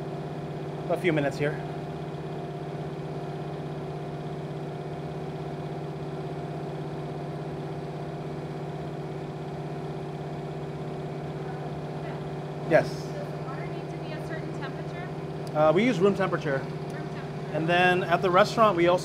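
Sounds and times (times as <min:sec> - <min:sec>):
mixer motor humming: 0:00.0 - 0:19.0.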